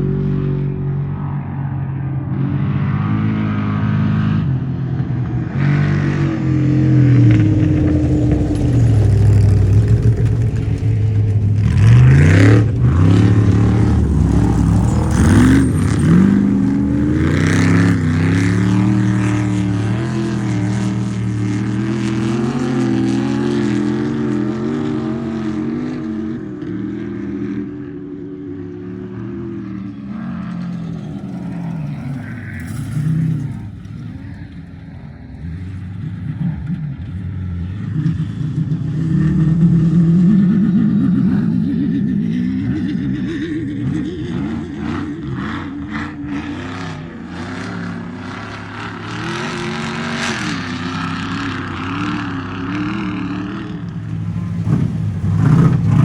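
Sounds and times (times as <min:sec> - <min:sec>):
race vehicle engine accelerating: 0:00.0 - 0:56.0.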